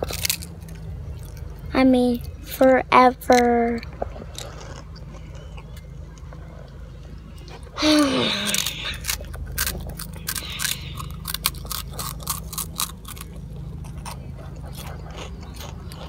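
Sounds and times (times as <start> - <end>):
crunchy snack chewing: 0.0 - 2.4, 3.2 - 16.0.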